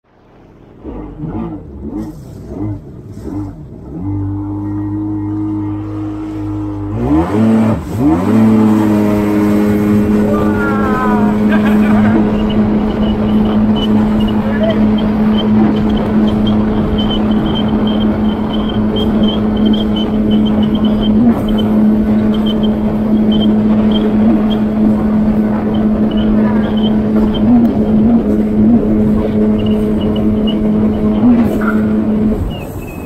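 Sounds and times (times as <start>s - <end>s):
water rushing: 0.0s - 33.0s
jet ski engine drone: 0.1s - 33.0s.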